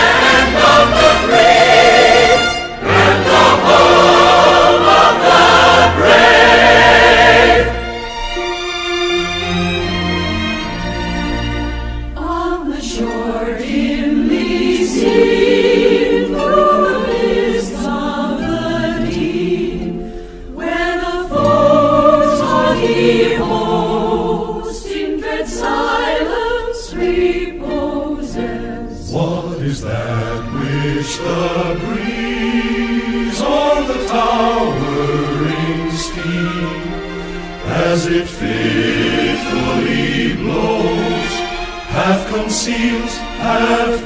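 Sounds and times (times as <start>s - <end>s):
choir singing held chords: 0.0s - 44.0s.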